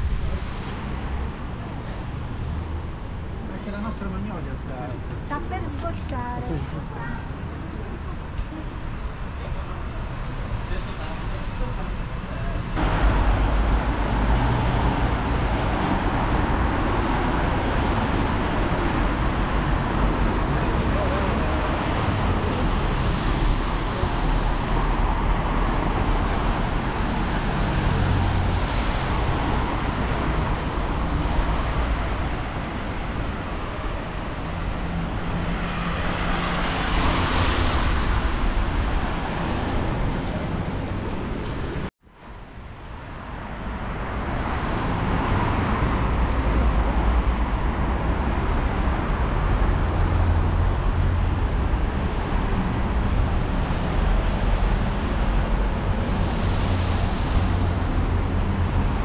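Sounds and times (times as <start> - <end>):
street traffic on wet roads: 0.0 - 59.0.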